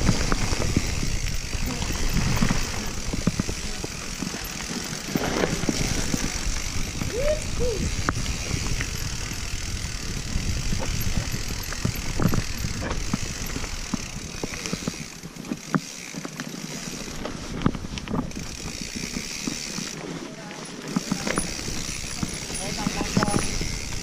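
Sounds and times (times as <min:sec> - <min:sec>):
mountain bike rattling and clattering: 0:00.0 - 0:24.0.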